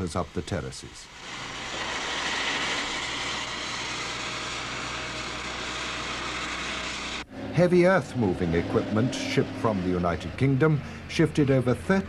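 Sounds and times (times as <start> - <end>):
machinery hiss: 0.0 - 11.5
low machinery hum: 0.0 - 12.0.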